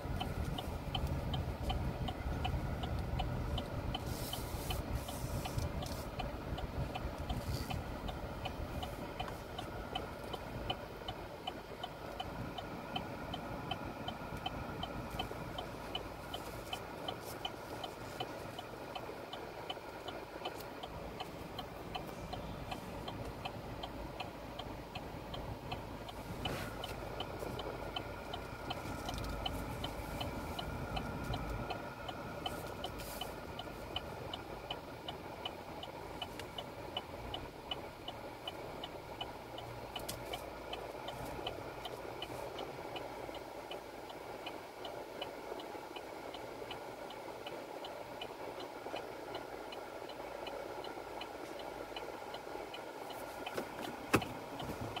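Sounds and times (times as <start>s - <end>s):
car engine idling: 0.0s - 55.0s
turn signal ticking: 0.0s - 55.0s.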